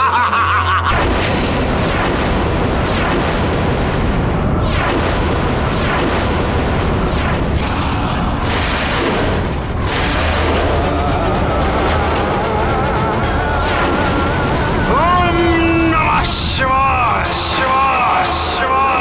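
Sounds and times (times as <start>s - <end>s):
falling whooshes: 0.9s - 19.0s
heavy rumble with booms: 0.9s - 19.0s.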